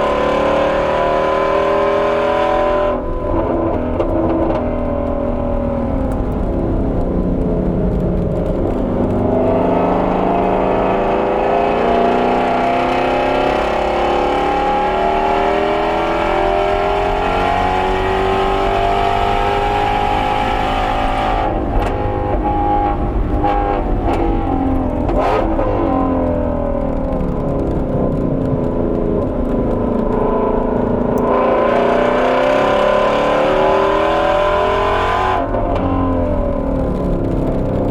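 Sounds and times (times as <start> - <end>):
car engine accelerating: 0.0 - 37.9
exhaust cracks: 1.9 - 37.9.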